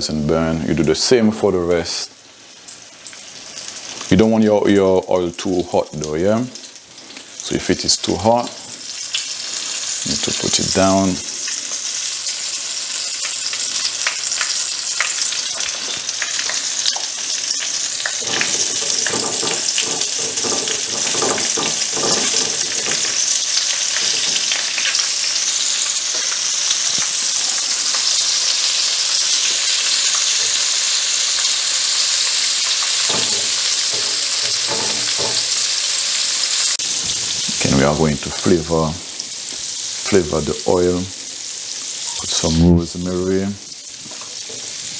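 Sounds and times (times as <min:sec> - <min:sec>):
chicken frying in oil: 0:00.0 - 0:44.9.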